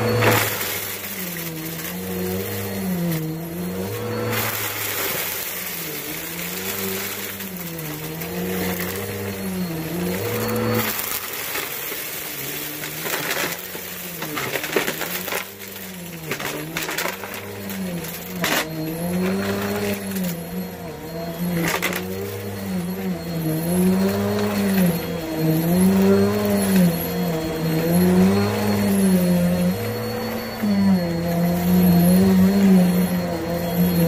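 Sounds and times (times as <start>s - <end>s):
debris clicking in vacuum: 0.0s - 20.6s, 21.4s - 34.0s
vacuum cleaner running: 0.0s - 34.0s.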